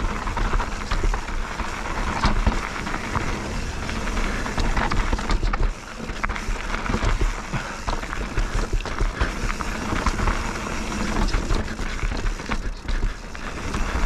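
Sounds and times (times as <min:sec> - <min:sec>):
bike rattles and knocks: 0:00.0 - 0:14.0
bike tyres on gravel and rock: 0:00.0 - 0:14.0.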